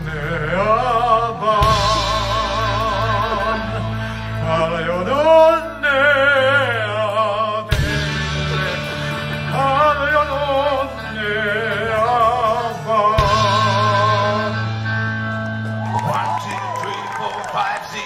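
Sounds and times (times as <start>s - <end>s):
sustained bass notes: 0.0s - 17.1s
live rock band playing: 0.0s - 17.6s
singer holding long notes: 0.0s - 18.0s.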